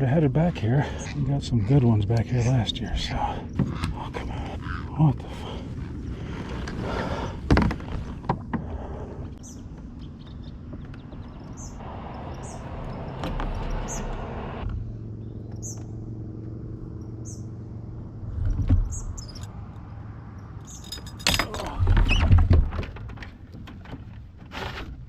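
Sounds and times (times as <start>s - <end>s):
birds chirping: 0.0s - 7.4s, 8.0s - 21.2s
outdoor background noise: 0.0s - 25.0s.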